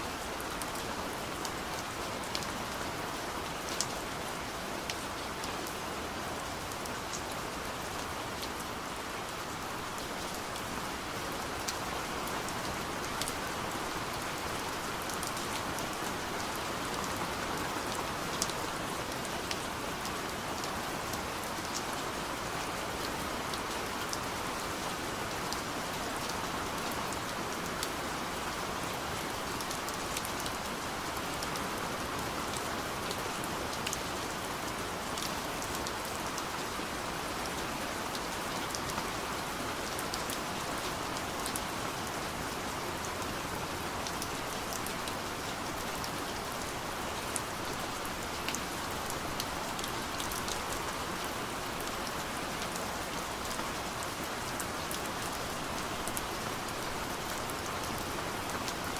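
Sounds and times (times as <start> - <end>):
rain on a window: 0.0 - 58.9.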